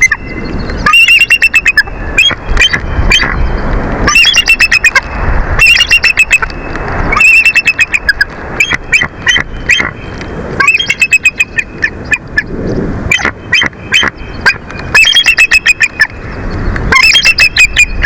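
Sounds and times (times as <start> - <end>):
eagles chittering: 0.0 - 18.0
wind rumble on microphone: 0.0 - 18.0.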